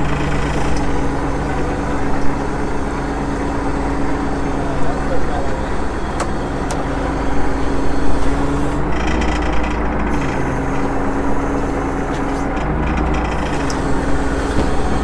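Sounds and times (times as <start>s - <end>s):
boat engine rumbling: 0.0s - 15.0s
hydraulic hauler humming: 0.0s - 15.0s.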